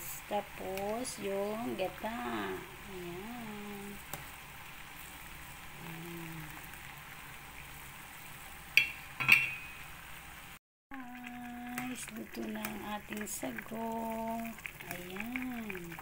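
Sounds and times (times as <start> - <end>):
water boiling in a pot: 0.0 - 16.0.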